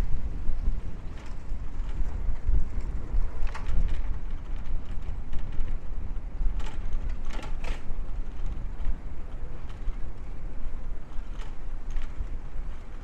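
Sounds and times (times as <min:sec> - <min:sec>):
bicycle clicks and rattles: 0:00.0 - 0:13.0
bicycle rolling rumble: 0:00.0 - 0:13.0
wind on microphone: 0:00.0 - 0:13.0.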